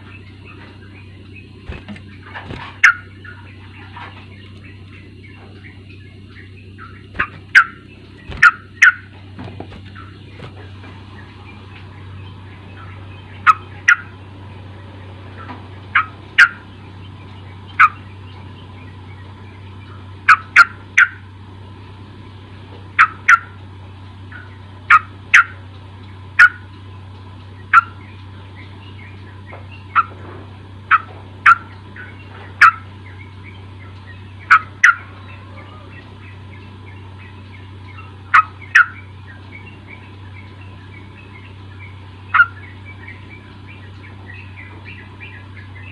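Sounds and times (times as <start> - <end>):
bird giving sharp calls: 0.0 - 14.2, 15.3 - 16.9, 17.6 - 19.6, 20.2 - 21.2, 22.9 - 23.6, 24.3 - 26.7, 27.6 - 30.2, 30.8 - 45.9
steady low hum: 0.0 - 45.9.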